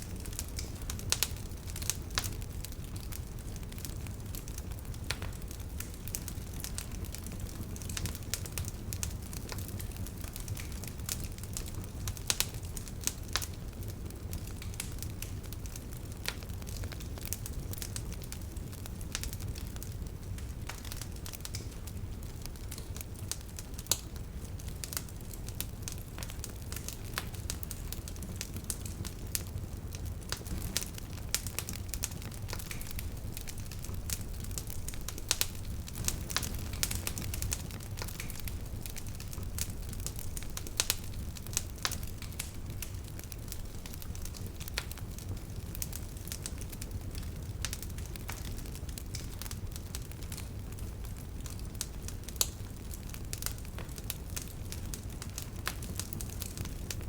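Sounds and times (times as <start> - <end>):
bonfire crackling and popping: 0.0 - 57.0
flames rumbling: 0.0 - 57.0.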